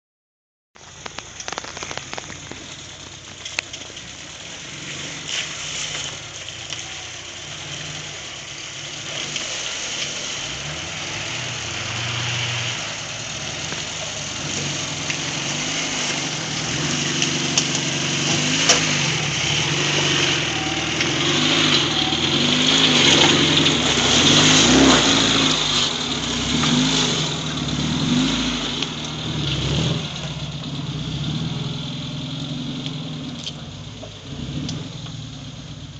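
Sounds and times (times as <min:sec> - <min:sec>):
off-road vehicle engine revving: 0:00.9 - 0:35.9.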